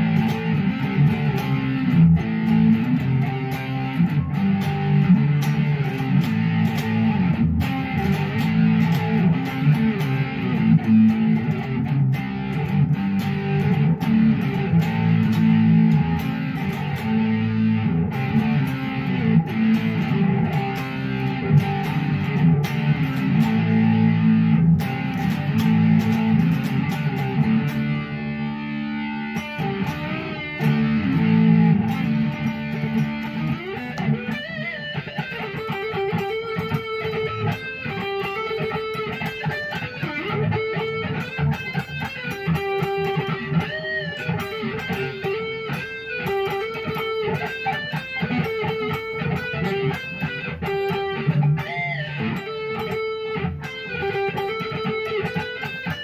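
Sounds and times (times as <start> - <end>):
electric guitar: 0.0 - 56.0.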